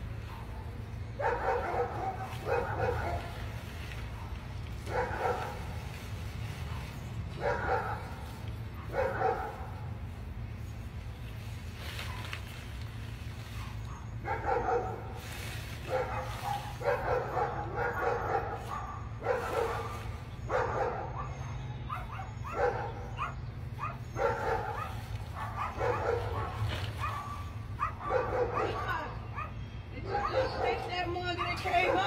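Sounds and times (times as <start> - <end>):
dog barking and yipping: 0.2 - 5.9, 6.6 - 10.0, 13.5 - 15.2, 15.8 - 32.0.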